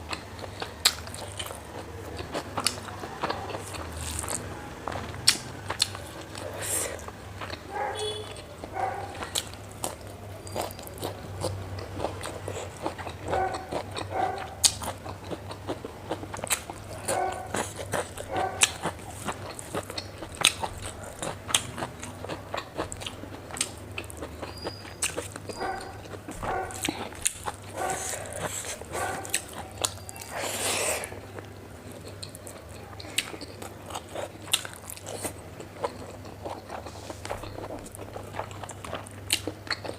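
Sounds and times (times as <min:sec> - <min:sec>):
wet chewing and biting: 0:00.0 - 0:39.9.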